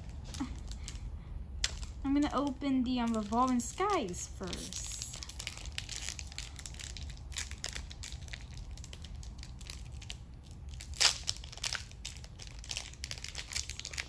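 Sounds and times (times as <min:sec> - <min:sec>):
foil wrapper crinkling: 0:00.0 - 0:14.0
foil ripping: 0:01.6 - 0:14.0.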